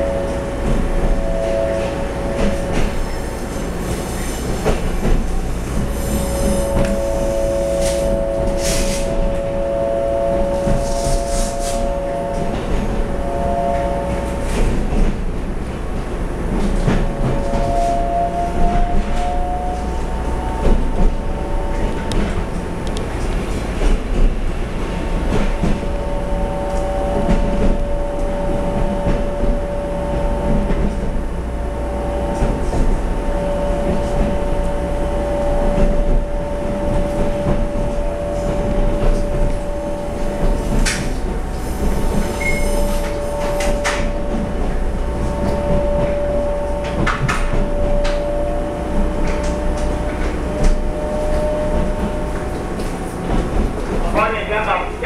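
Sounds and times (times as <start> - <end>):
steady whine: 0.0 - 55.0
wheels rumbling on track: 0.0 - 55.0.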